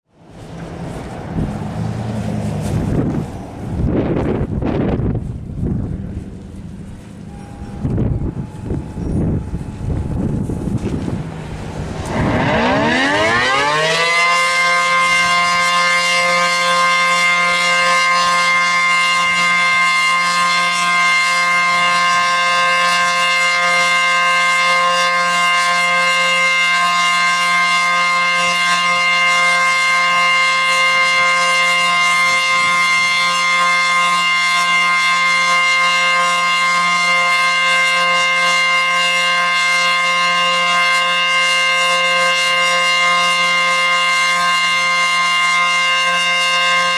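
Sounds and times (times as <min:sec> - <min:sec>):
tornado siren winding up: 0:00.3 - 0:46.9.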